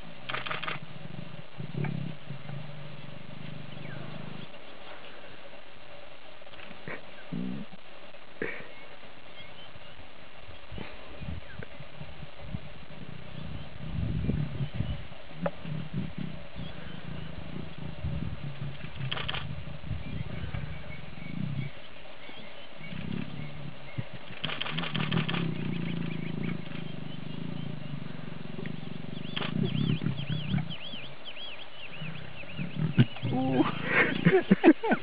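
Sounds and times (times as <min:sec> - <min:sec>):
lion snarls: 0:00.0 - 0:05.3, 0:06.7 - 0:07.8, 0:10.8 - 0:35.0
lions growling: 0:00.0 - 0:05.9, 0:06.5 - 0:08.7, 0:10.7 - 0:35.0
bird chirping: 0:00.3 - 0:05.2, 0:08.5 - 0:35.0.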